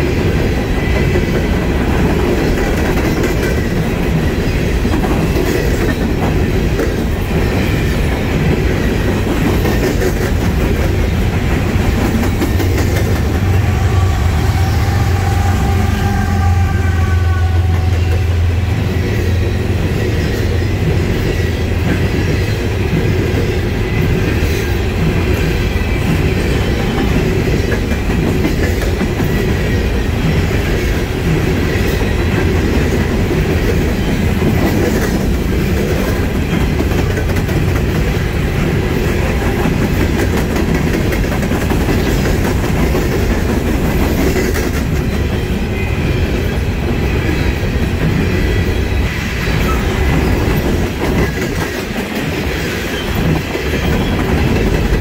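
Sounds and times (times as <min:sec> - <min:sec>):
clickety-clack over rail joints: 0:00.0 - 0:13.9, 0:17.6 - 0:55.0
train cars rumbling on rails: 0:00.0 - 0:55.0.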